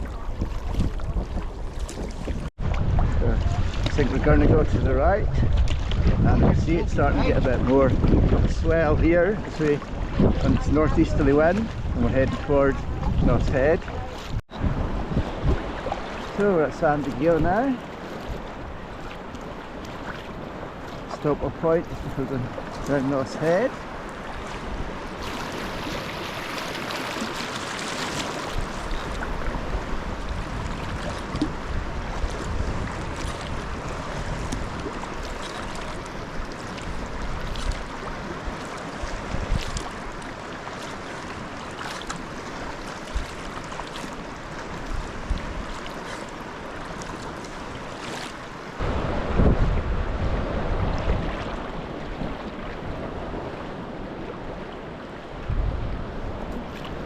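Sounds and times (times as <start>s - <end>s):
wind buffeting microphone: 0.0s - 40.3s, 41.4s - 47.6s, 48.7s - 57.0s
sea water splashing around kayak: 0.0s - 57.0s.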